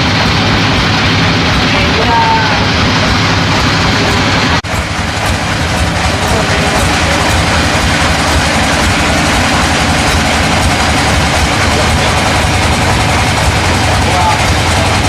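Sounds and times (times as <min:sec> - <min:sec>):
sawmill machinery din: 0:00.0 - 0:15.0.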